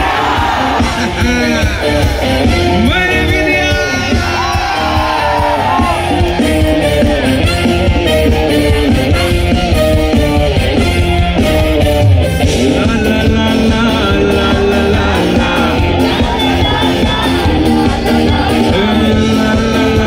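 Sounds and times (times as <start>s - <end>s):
live band playing: 0.0s - 20.0s
voices shouting and singing: 0.0s - 20.0s.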